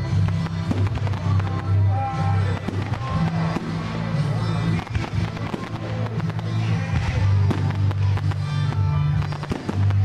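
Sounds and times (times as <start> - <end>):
fireworks pops and bangs: 0.0 - 1.8, 2.5 - 4.0, 4.6 - 10.0.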